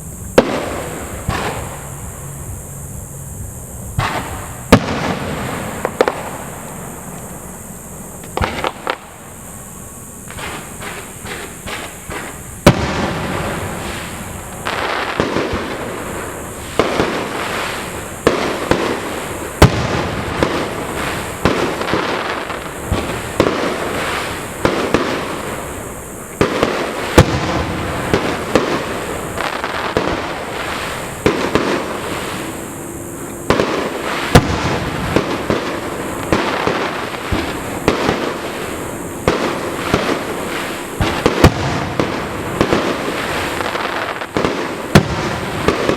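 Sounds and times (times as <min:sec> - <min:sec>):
firework shells bursting: 0:00.0 - 0:45.9
rumble and crackle: 0:00.0 - 0:45.9.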